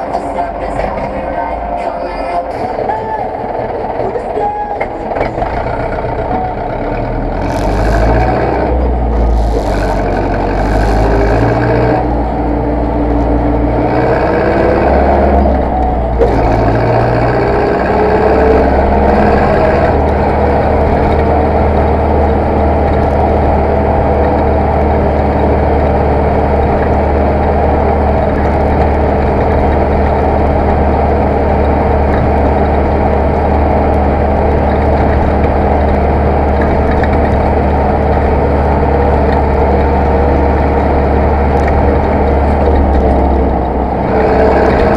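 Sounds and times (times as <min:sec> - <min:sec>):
tractor diesel engine running: 0:00.0 - 0:44.9
engine knock: 0:02.6 - 0:12.1, 0:13.8 - 0:44.9.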